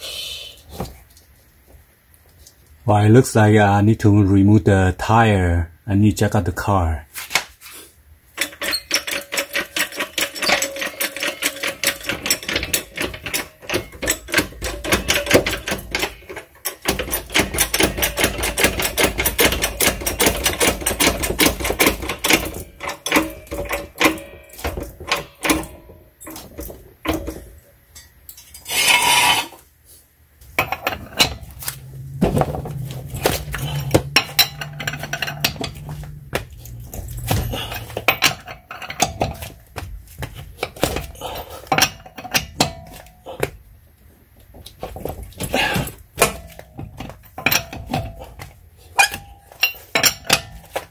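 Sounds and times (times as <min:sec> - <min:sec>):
steady low hum: 0:09.4 - 0:50.9.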